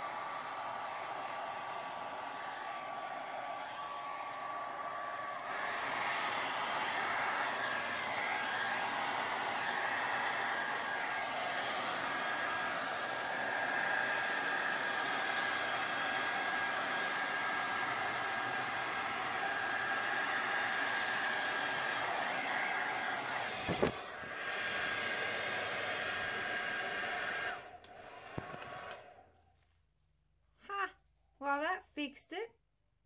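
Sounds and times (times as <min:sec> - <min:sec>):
hair dryer motor spinning down: 0:00.0 - 0:29.3
hair dryer blowing: 0:00.0 - 0:29.4.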